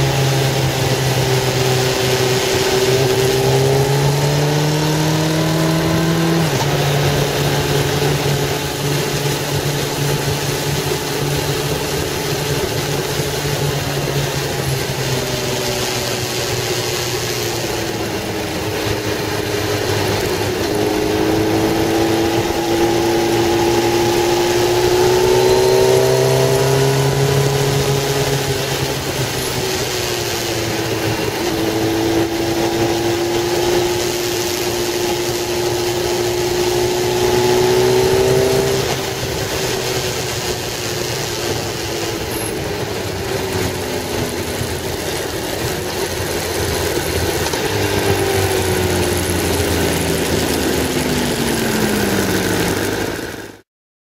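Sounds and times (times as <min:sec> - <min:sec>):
road noise: 0:00.0 - 0:53.6
car engine: 0:00.0 - 0:53.7.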